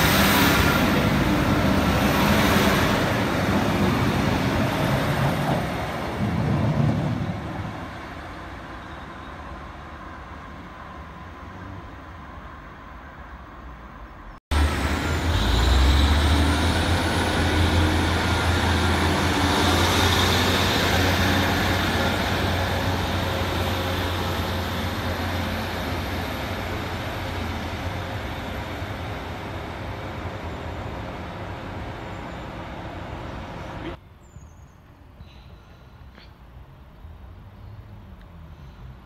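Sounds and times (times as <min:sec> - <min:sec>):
diesel train engine rumble: 0:00.0 - 0:34.0.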